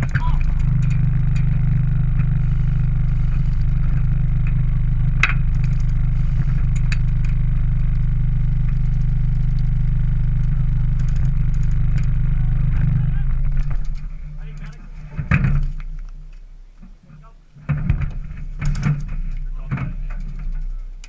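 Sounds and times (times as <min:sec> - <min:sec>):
sharp clicks and knocks: 0:00.0 - 0:16.9, 0:17.6 - 0:21.0
pickup truck engine rumble: 0:00.0 - 0:21.0.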